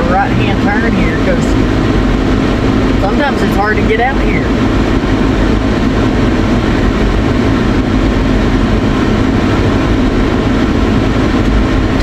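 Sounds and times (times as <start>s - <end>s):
truck cabin engine and road rumble: 0.0s - 12.0s.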